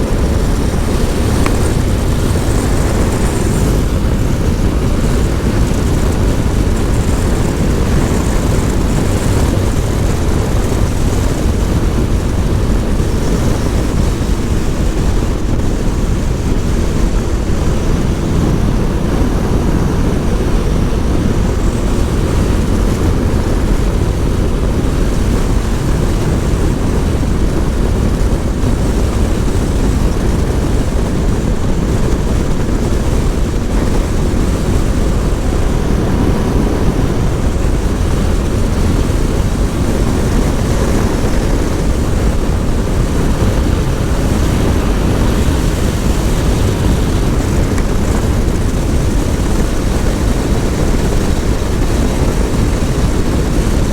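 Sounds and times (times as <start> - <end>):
motorcycle engine drone: 0.0 - 53.9
wind rush: 0.0 - 53.9.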